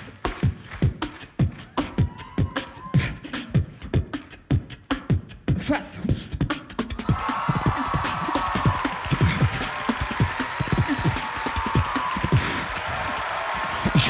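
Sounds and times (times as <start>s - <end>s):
person beatboxing into a microphone: 0.0s - 14.0s.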